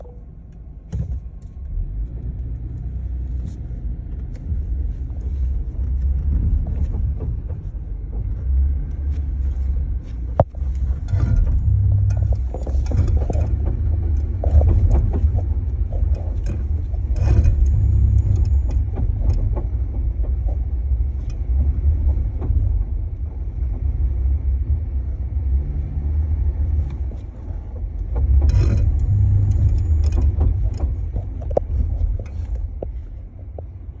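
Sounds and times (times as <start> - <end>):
vehicle engine rumble: 0.0 - 34.0
sharp knocks and clicks: 5.8 - 25.7, 26.4 - 34.0.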